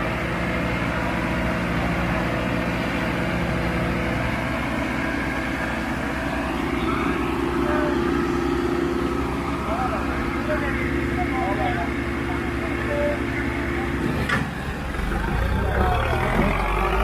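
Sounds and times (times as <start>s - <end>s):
tractor diesel engines running: 0.0s - 17.0s.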